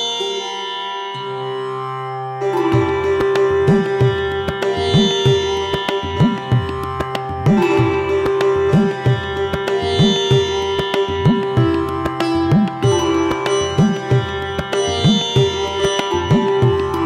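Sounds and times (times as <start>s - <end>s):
plucked strings: 0.0s - 17.0s.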